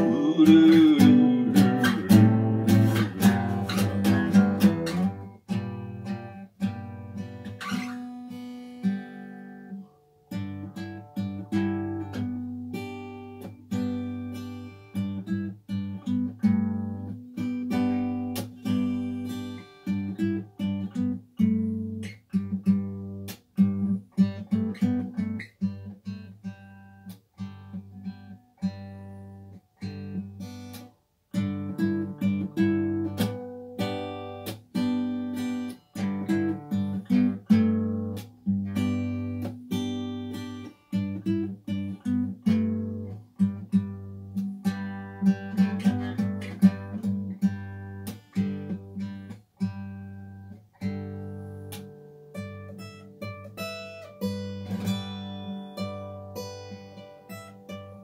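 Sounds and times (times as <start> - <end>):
acoustic guitar plucking: 0.0 - 58.0.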